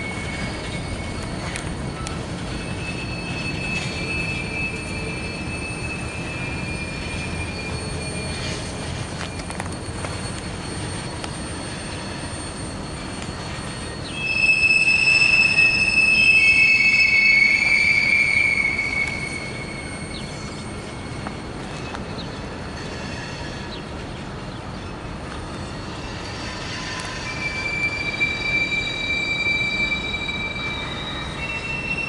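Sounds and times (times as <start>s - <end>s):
train wheels squealing: 0.0s - 32.0s.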